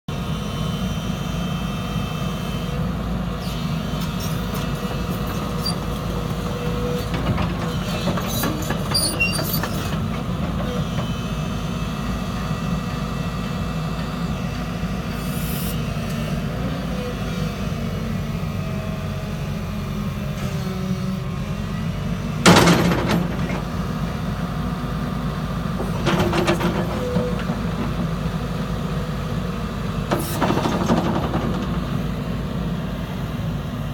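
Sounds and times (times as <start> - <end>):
excavator diesel engine rumbling: 0.1 - 33.9.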